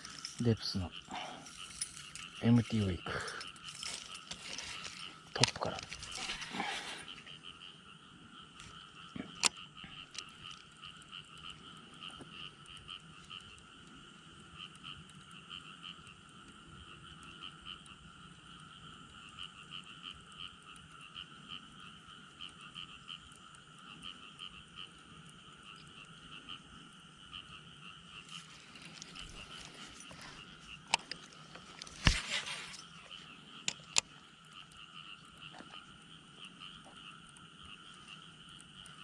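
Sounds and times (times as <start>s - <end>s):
faint chorus of frogs trilling: 0.0s - 39.0s.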